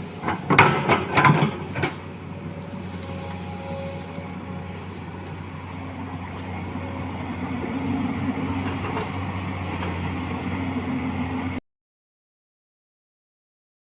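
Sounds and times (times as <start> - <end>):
excavator diesel engine running: 0.0 - 11.6.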